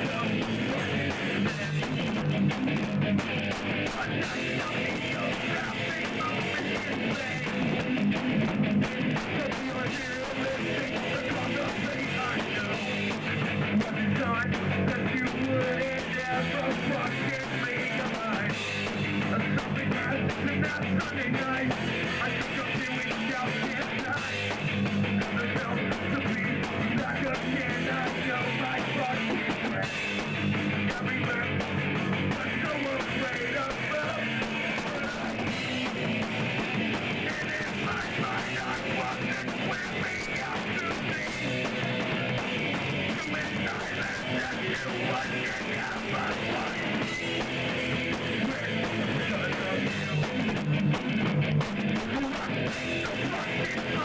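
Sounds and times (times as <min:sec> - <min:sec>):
electric guitar: 0:00.0 - 0:54.0
punk rock band playing live: 0:00.0 - 0:54.0.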